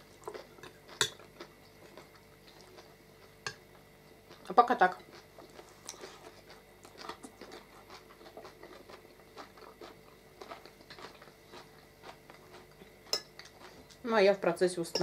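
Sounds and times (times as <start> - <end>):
people chewing food: 0.0 - 14.2.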